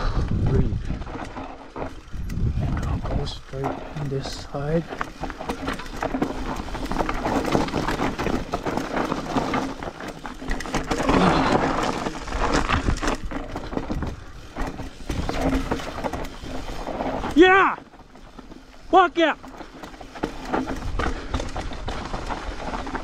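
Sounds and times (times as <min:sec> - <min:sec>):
bike rattling over bumps: 0:00.0 - 0:23.0
bike tyres crunching over gravel: 0:00.0 - 0:23.0.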